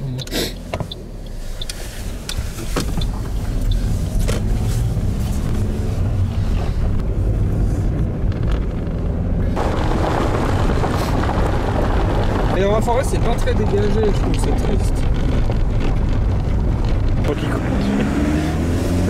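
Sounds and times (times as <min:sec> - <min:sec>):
car cabin engine hum: 0:00.0 - 0:19.0
rough tyre and road noise: 0:00.0 - 0:19.0.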